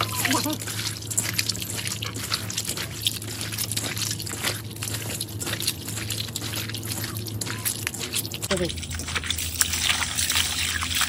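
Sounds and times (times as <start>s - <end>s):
hands squelching raw meat: 0.0s - 11.0s.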